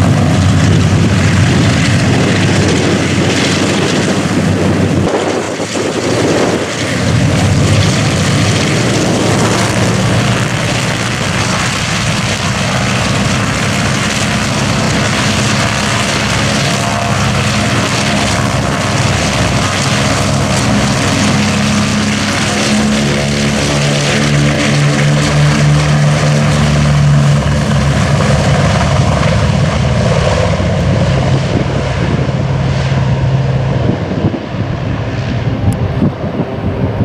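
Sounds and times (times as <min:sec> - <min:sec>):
deep propeller engine drone: 0:00.0 - 0:37.0
gusty uneven rumble: 0:00.0 - 0:37.0.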